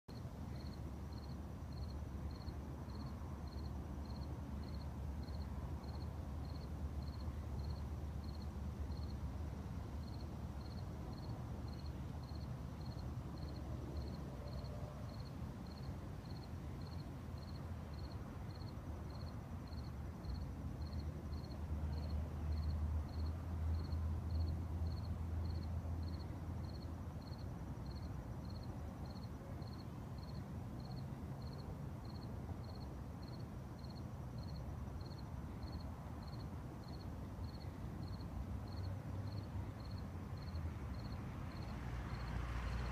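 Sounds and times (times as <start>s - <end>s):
cricket chirping: 0.1s - 42.9s.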